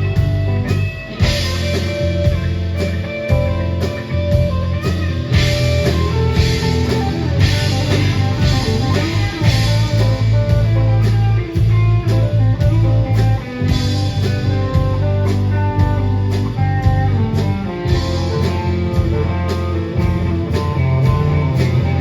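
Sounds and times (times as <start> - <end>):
bass guitar: 0.0 - 22.0
drum kit beat: 0.0 - 22.0
electric guitar: 0.0 - 22.0.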